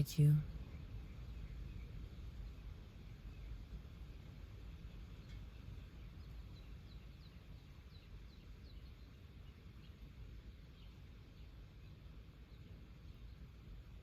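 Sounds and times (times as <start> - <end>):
faint bird chirping: 0.0 - 14.0
low steady rumble: 0.0 - 14.0.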